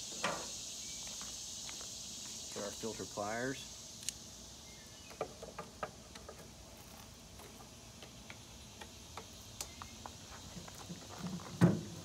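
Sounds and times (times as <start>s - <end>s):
faint steady high hiss: 0.0s - 12.0s.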